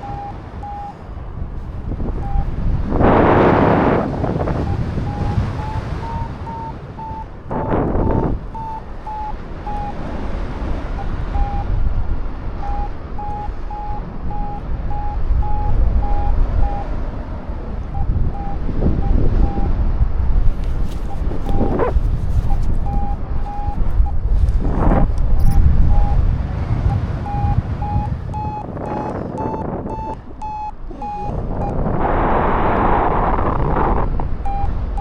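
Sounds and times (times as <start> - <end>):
variometer short beeps: 0.0 - 10.2, 10.8 - 11.8, 12.5 - 19.8, 20.4 - 35.0
wind rushing over microphone: 0.0 - 35.0.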